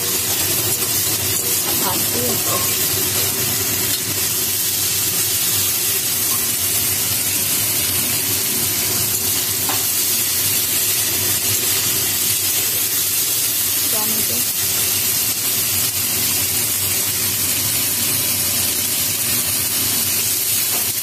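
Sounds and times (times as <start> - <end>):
onion sizzling in oil: 0.0 - 21.0.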